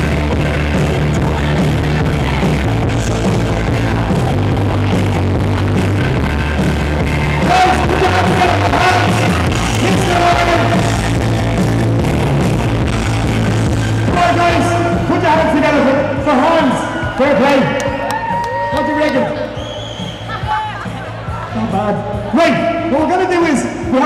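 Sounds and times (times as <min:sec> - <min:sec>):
rock song with bass line: 0:00.0 - 0:24.0.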